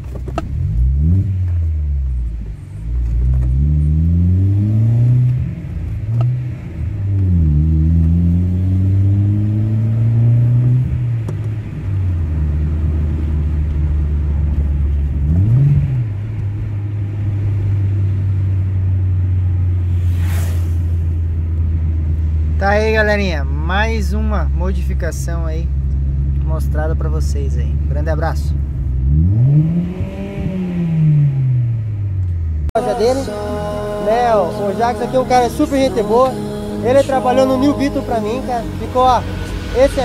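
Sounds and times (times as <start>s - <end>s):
car engine revving: 0.0s - 22.6s, 24.0s - 40.0s.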